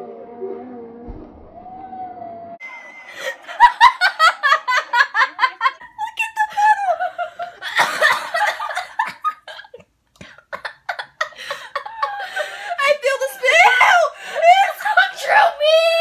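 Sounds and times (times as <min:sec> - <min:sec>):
girls laughing: 0:03.0 - 0:16.0.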